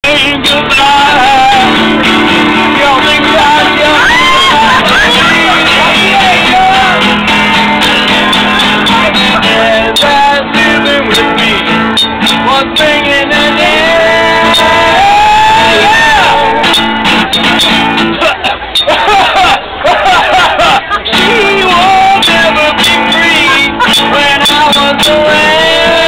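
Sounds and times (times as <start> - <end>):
acoustic guitar strumming: 0.0 - 26.0
people singing loudly: 0.0 - 26.0.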